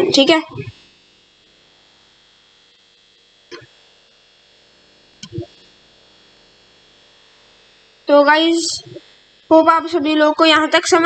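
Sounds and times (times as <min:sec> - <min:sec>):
faint high whine: 0:00.0 - 0:11.0
microphone background hiss: 0:00.0 - 0:11.0.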